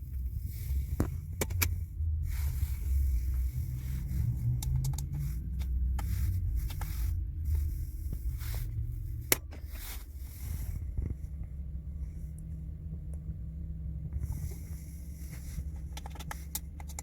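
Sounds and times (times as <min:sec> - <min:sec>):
low rumble: 0:00.0 - 0:17.0
handling scraping and clicking: 0:00.1 - 0:11.5, 0:14.1 - 0:17.0.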